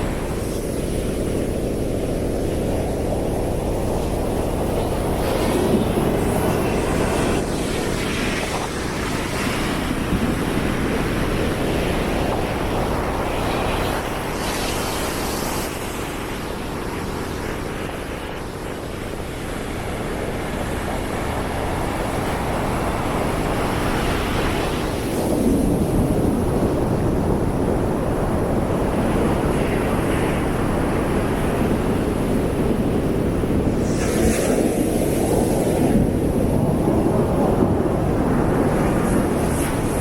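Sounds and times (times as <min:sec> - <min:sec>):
ocean waves breaking: 0:00.0 - 0:40.0
wind rumble on microphone: 0:00.0 - 0:40.0.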